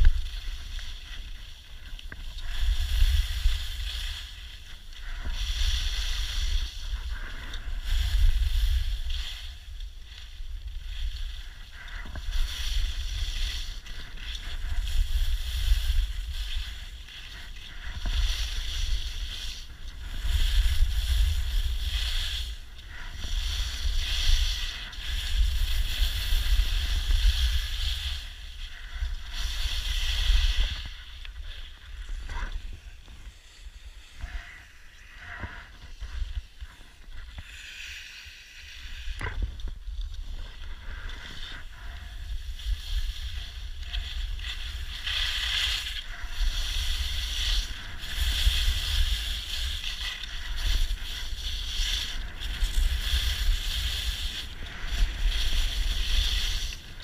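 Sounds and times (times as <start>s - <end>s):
skis scraping over snow: 0.0s - 57.0s
wind rumble on microphone: 0.0s - 57.0s.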